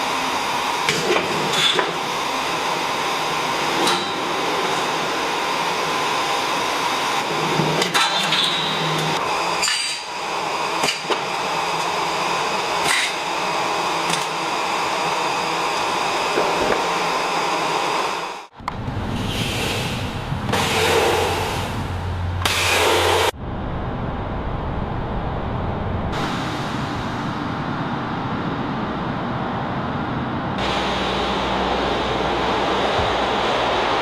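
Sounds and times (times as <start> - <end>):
machine whirring and hissing: 0.0 - 23.4, 26.1 - 34.0.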